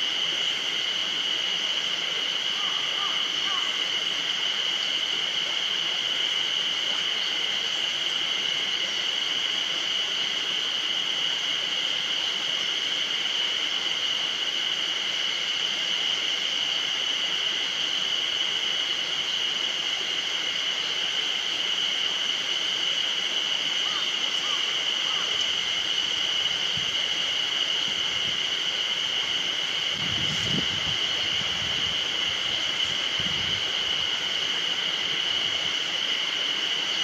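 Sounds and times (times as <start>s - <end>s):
cicadas buzzing: 0.0s - 37.0s.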